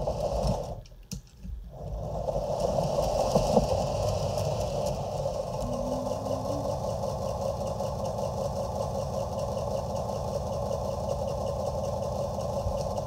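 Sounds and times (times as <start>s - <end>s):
model train motor buzzing: 2.0s - 13.0s.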